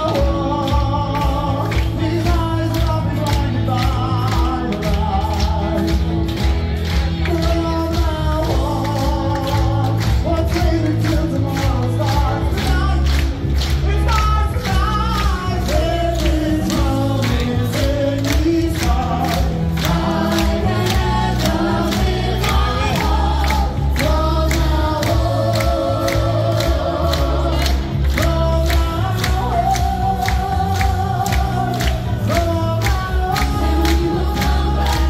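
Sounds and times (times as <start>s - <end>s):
upbeat group singing with bass: 0.0s - 35.0s.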